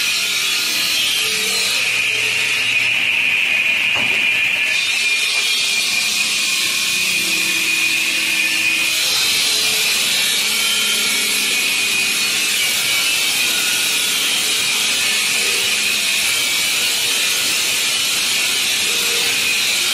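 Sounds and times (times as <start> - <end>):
saw blade cutting stone: 0.0 - 19.9.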